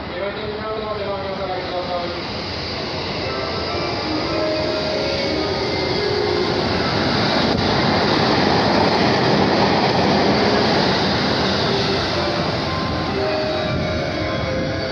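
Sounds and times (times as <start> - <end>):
train passing at speed: 0.0 - 14.9.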